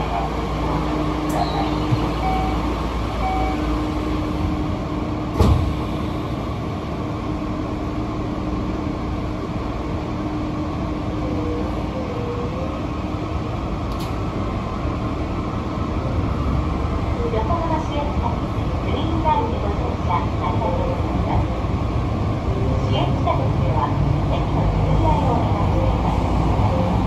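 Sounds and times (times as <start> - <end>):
train rumbling through tunnel: 0.0 - 27.0.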